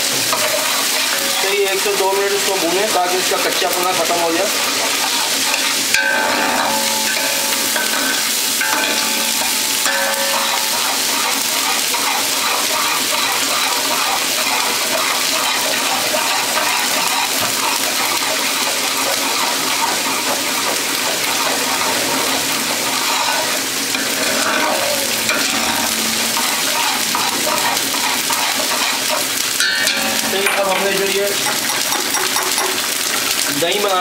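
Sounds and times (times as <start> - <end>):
ladle stirring in pot: 0.0 - 33.5
paste sizzling in hot oil: 0.0 - 34.0.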